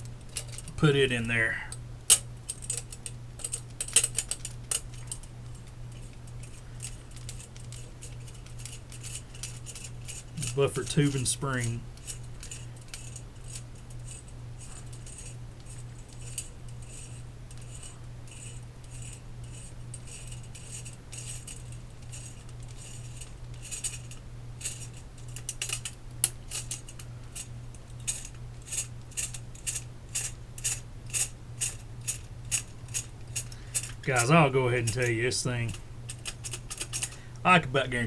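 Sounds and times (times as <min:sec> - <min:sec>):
steady low hum: 0:00.0 - 0:38.0
small metal parts clicking: 0:00.1 - 0:00.8, 0:02.1 - 0:37.2.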